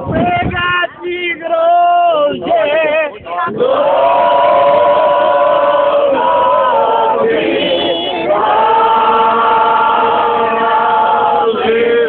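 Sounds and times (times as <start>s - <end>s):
group singing folk song: 0.0s - 12.0s.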